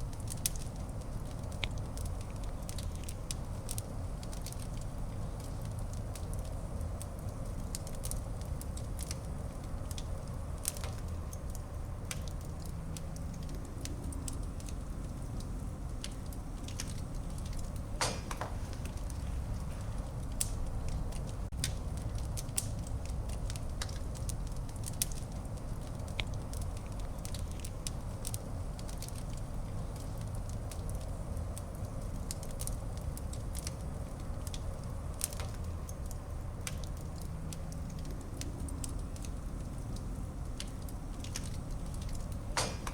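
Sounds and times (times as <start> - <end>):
fire crackling and popping: 0.0 - 42.9
low rumble of flames: 0.0 - 42.9.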